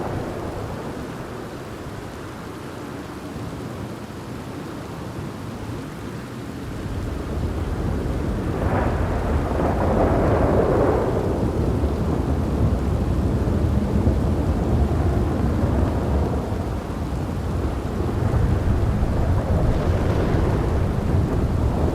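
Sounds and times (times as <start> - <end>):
thunder rolling: 0.0 - 2.6, 6.8 - 21.9
steady rain: 0.0 - 21.9.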